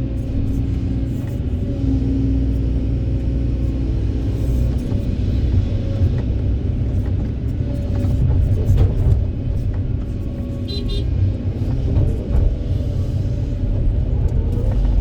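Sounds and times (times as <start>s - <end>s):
heavy diesel engines droning: 0.0s - 15.0s.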